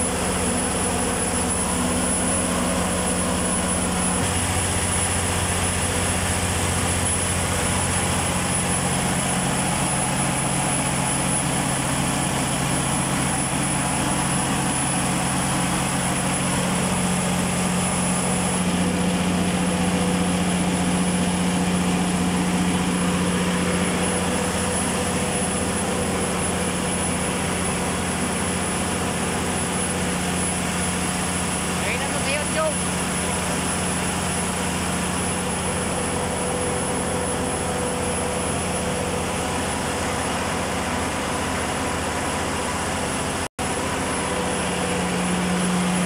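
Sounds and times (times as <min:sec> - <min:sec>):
diesel generator engine drone: 0:00.0 - 0:46.0.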